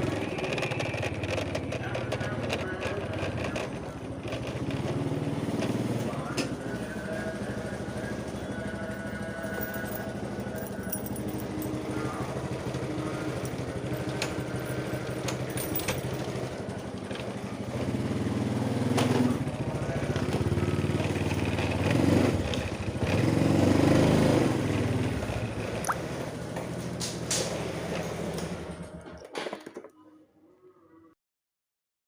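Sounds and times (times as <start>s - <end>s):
engine running steadily: 0.0s - 29.2s.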